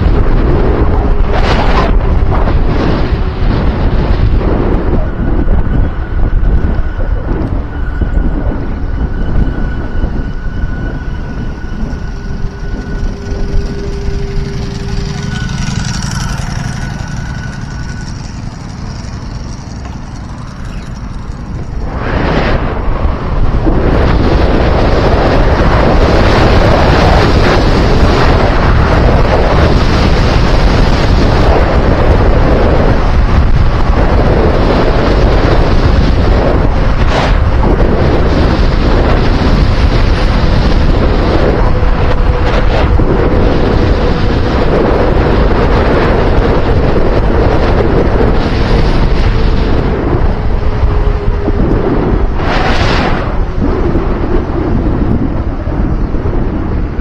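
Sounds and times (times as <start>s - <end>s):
faint hum dropping in pitch: 0.0s - 57.0s
wind rushing over microphone: 0.0s - 57.0s.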